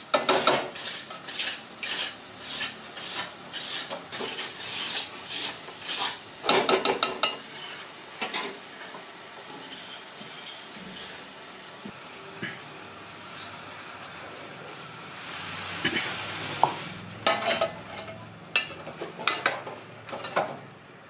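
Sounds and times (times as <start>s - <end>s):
curry sizzling in pot: 0.0s - 20.8s.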